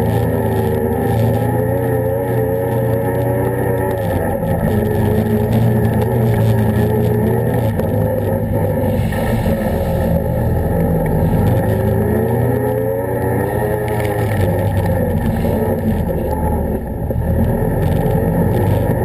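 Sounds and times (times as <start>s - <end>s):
quad bike engine revving: 0.0s - 19.0s.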